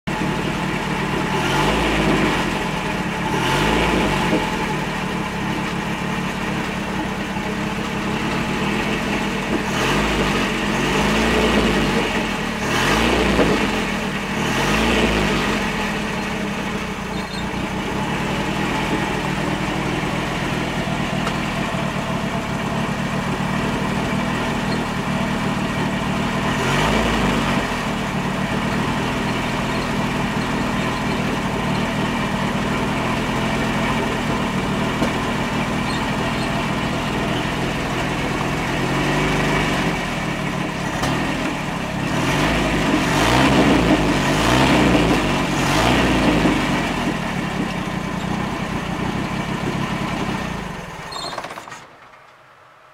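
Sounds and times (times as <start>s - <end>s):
van engine idling and revving: 0.0s - 52.9s.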